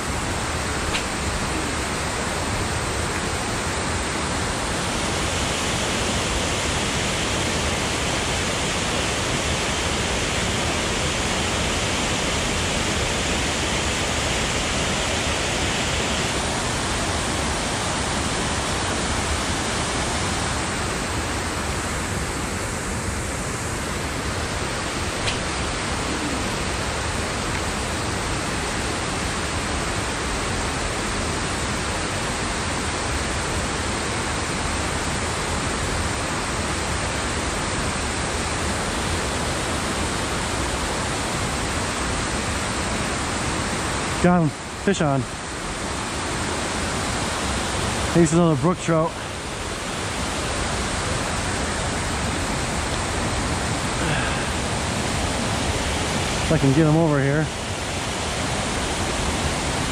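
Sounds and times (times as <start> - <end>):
water rushing over waterfall: 0.0 - 59.9.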